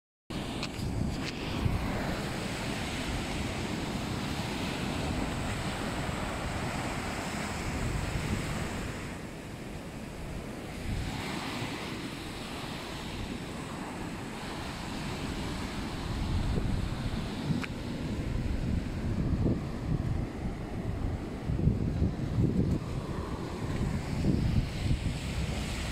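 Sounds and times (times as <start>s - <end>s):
ocean surf on beach: 0.3s - 25.9s
wind rumble on microphone: 0.3s - 25.9s.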